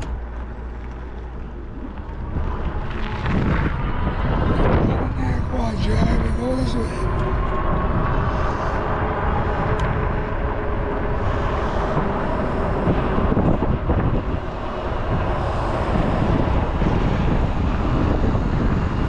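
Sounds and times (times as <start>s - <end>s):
road noise from bike: 0.0s - 19.0s
wind rush on microphone: 0.0s - 19.0s.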